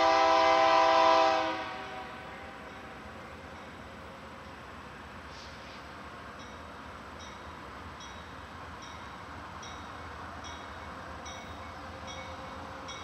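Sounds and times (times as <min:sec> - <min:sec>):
distant freight train rumble: 0:00.0 - 0:13.0.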